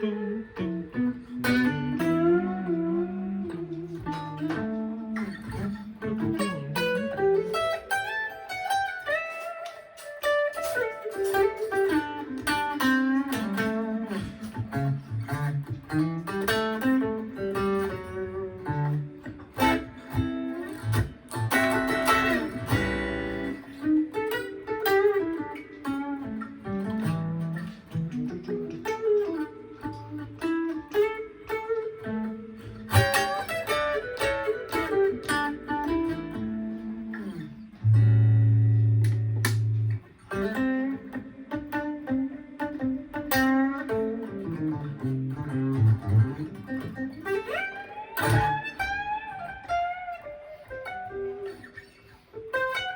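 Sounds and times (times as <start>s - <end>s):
electric guitar lead lines: 0.0s - 52.9s.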